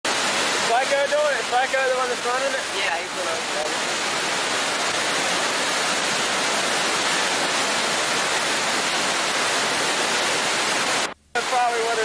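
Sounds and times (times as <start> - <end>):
whitewater rushing over rocks: 0.1 - 12.0.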